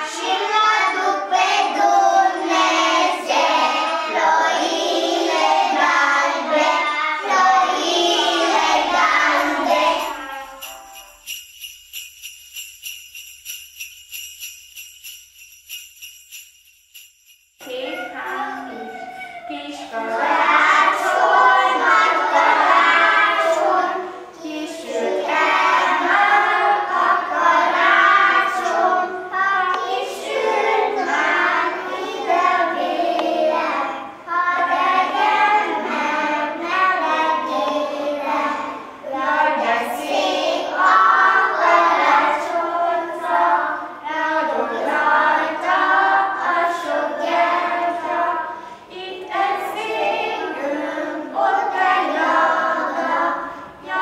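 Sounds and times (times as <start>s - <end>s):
children singing a carol: 0.0s - 11.2s, 17.6s - 54.0s.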